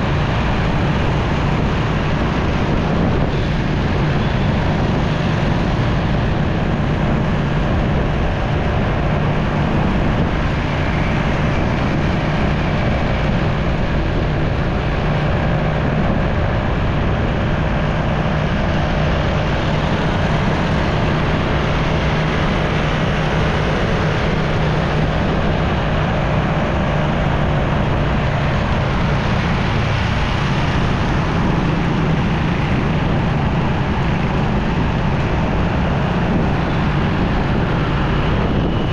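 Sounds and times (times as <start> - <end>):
motorcycle engine humming: 0.0 - 38.9
road and wind noise: 0.0 - 38.9.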